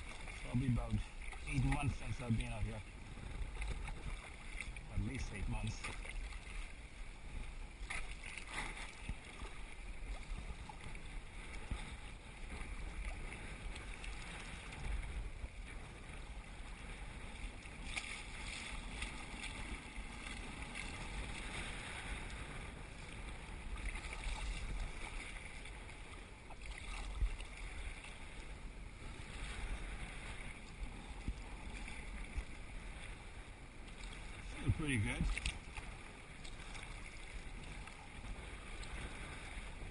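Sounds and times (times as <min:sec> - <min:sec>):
kayak paddle strokes: 0:00.0 - 0:39.9
water splashing against hull: 0:00.0 - 0:39.9
wind rumbling on microphone: 0:00.0 - 0:39.9.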